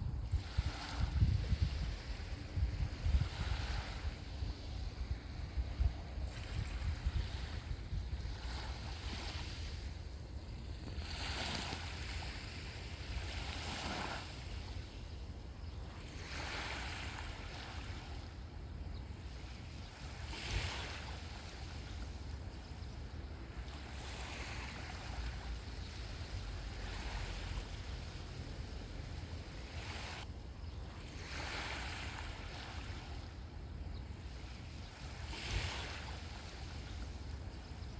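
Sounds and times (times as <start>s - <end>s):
sea waves breaking on shore: 0.0s - 37.9s
wind rumble on microphone: 0.0s - 37.9s.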